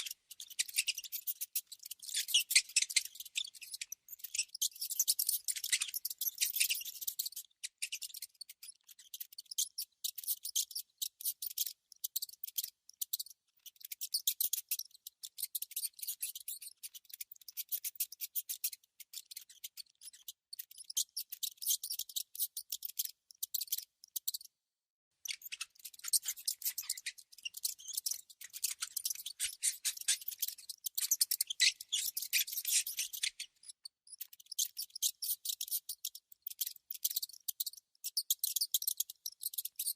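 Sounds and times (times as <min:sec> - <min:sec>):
mouse clicking and scratching: 0:00.0 - 0:24.5, 0:25.2 - 0:39.9.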